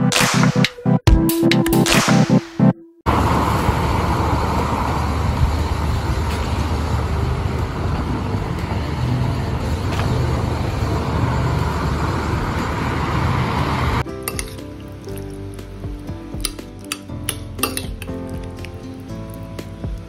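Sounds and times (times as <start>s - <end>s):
road traffic rumble: 3.1s - 20.0s.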